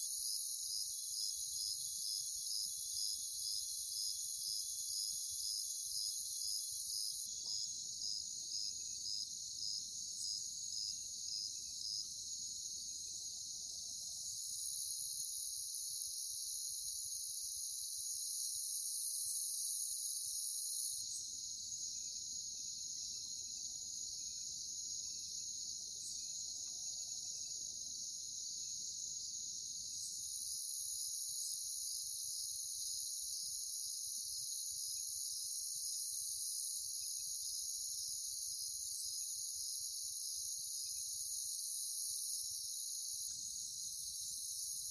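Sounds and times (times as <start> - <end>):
high continuous insect buzz: 0.0 - 44.9
insects chirping: 0.0 - 44.9.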